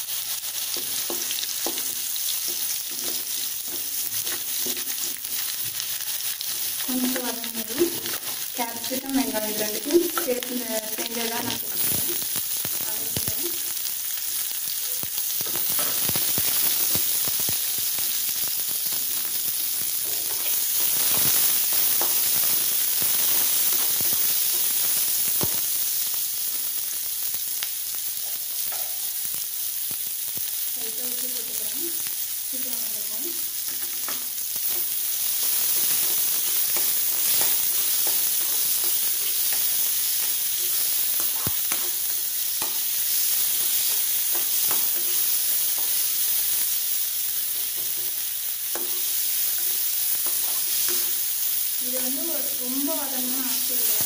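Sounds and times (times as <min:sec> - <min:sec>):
vegetables sizzling in hot oil: 0:00.0 - 0:54.0.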